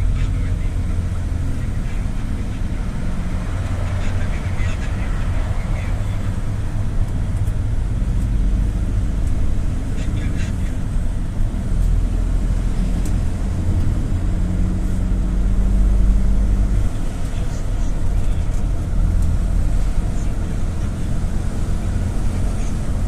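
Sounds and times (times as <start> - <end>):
engine and road drone: 0.0 - 23.0.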